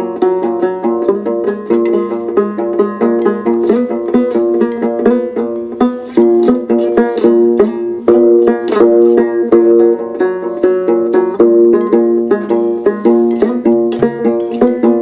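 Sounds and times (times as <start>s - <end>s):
fast picked string notes: 0.0s - 15.0s.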